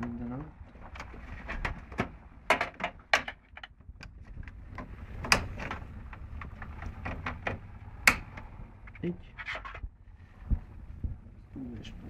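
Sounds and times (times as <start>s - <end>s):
cables and parts rattling: 0.0s - 10.0s.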